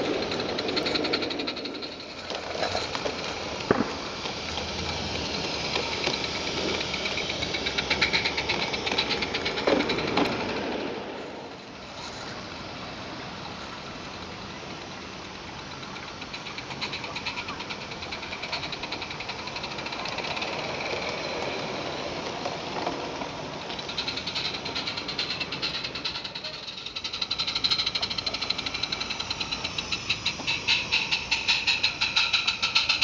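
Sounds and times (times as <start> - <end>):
model steam locomotive chuffing: 0.0 - 33.0
small wheels clattering on track: 0.0 - 33.0.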